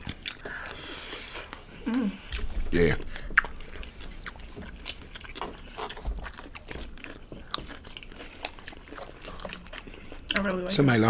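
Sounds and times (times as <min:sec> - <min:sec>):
close chewing and biting: 0:00.0 - 0:11.0.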